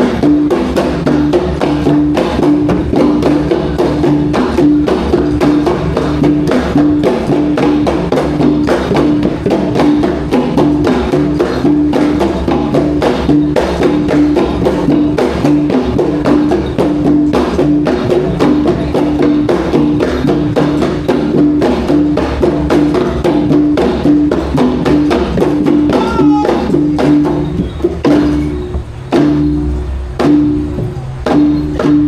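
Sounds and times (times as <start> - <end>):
drums and struck percussion: 0.0 - 32.0.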